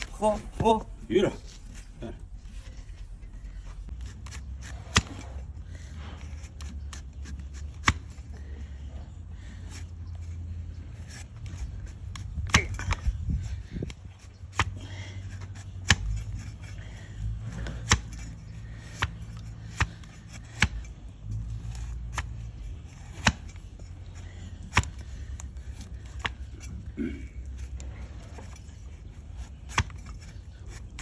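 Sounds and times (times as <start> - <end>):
blade cutting hoof: 3.9 - 31.0.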